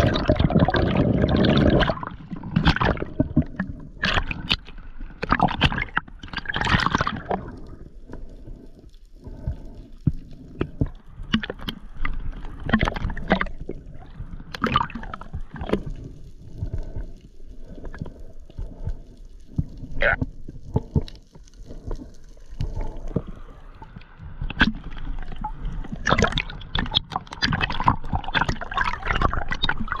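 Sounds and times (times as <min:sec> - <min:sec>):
water sloshing and gurgling: 0:00.0 - 0:30.0.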